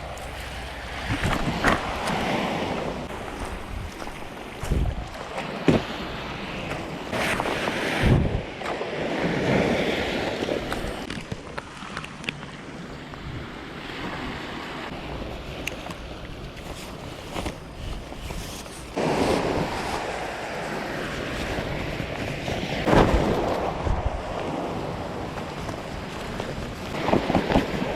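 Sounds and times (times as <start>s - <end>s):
wind noise on microphone: 0.0s - 11.6s, 13.2s - 27.9s
sea waves washing: 0.0s - 27.9s.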